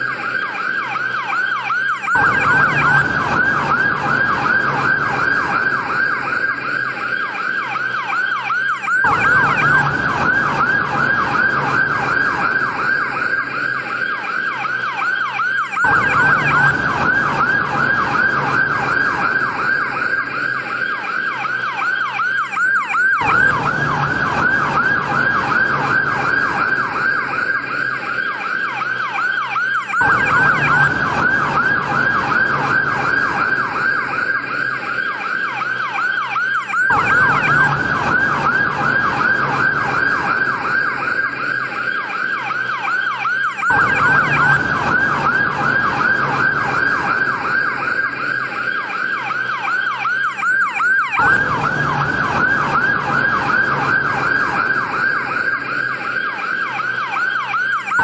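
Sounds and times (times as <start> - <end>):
ambulance siren yelping: 0.0 - 58.0.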